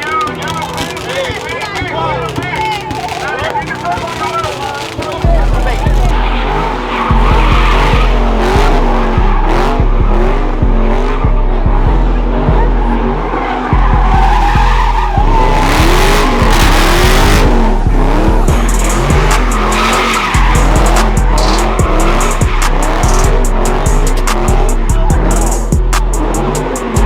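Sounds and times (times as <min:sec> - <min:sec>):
car tires squealing: 0:00.0 - 0:27.0
loud music with deep bass: 0:00.0 - 0:27.0
engine revving hard: 0:00.7 - 0:27.0.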